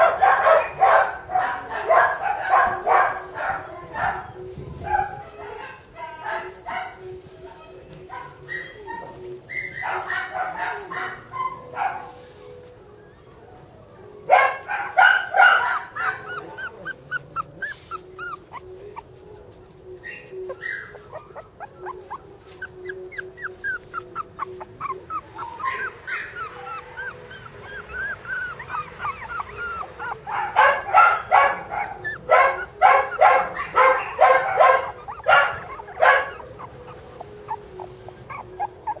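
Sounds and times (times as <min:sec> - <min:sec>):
puppies yelping: 0:00.0 - 0:05.9, 0:08.2 - 0:39.0
puppies whimpering: 0:00.0 - 0:07.2, 0:08.0 - 0:39.0.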